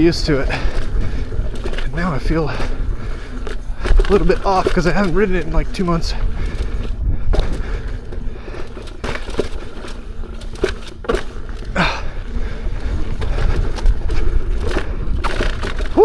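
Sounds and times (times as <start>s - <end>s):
tyre knocking on rocks: 0.0s - 11.9s, 12.8s - 16.0s.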